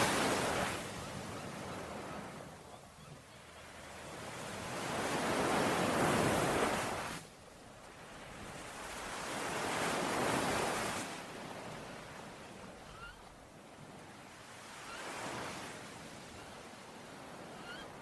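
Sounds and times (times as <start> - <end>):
ocean waves washing ashore: 0.0 - 18.0.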